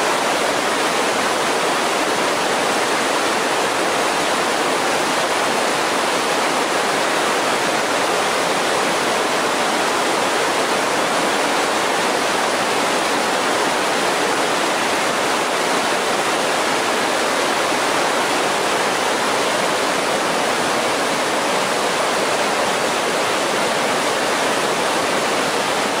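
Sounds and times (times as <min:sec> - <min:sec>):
creek rushing over boulders: 0:00.0 - 0:26.0.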